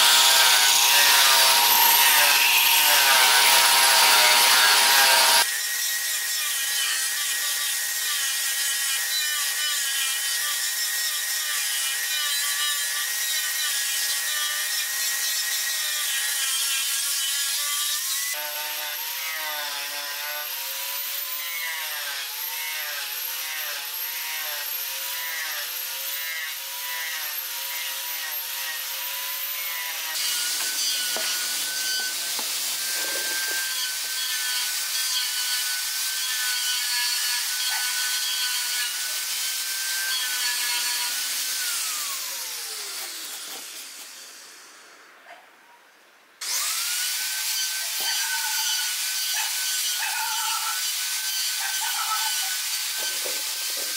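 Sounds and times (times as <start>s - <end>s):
wood lathe cutting: 0.0s - 44.2s, 46.4s - 53.9s.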